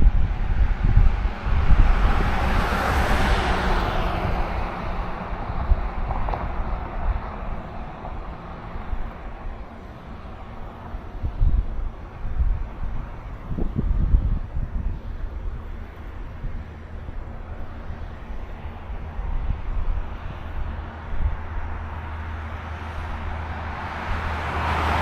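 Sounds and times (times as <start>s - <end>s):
car passing: 0.0s - 25.0s
wind buffeting microphone: 0.0s - 25.0s.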